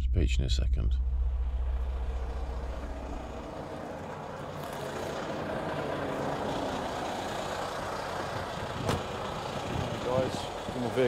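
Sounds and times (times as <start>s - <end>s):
truck diesel engine running: 1.0s - 11.0s.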